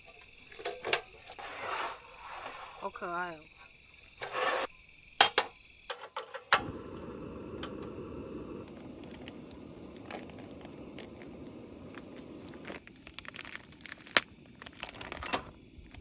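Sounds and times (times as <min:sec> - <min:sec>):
high trill of insects: 0:00.0 - 0:16.0
steady hiss: 0:00.0 - 0:16.0.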